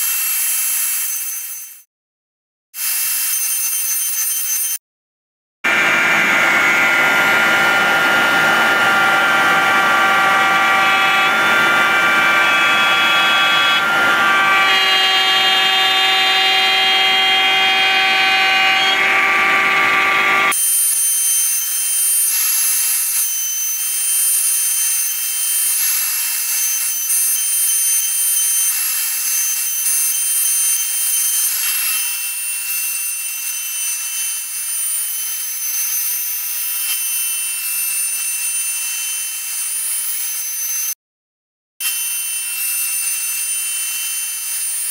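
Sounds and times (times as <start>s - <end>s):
cnc router spindle whine: 5.7s - 40.9s, 41.8s - 44.9s.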